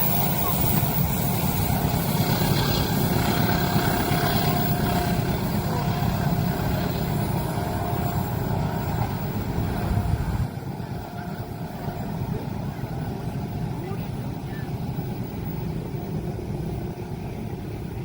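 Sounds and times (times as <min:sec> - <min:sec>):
train passing rumble: 0:00.0 - 0:18.0.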